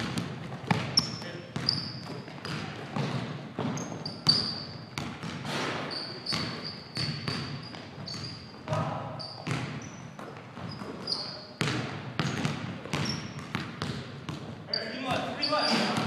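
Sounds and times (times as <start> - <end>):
basketballs bouncing on wooden floor: 0.0 - 16.0
sneakers squeaking on court: 0.0 - 16.0.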